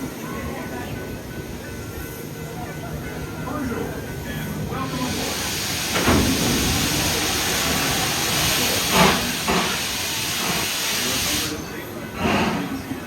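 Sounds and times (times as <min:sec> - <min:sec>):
moving steam train running: 0:00.0 - 0:13.0.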